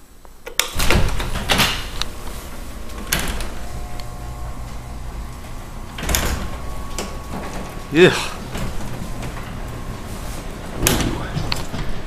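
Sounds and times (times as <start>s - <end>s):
garage door jolt: 0.7s - 12.0s
garage door rattling on tracks: 0.8s - 12.0s
steady motor whine: 0.8s - 12.0s.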